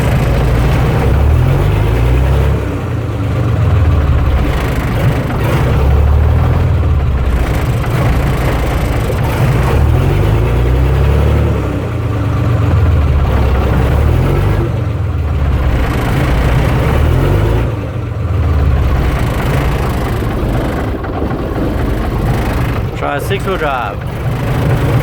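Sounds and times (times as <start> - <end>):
truck engine working under load: 0.0 - 25.0.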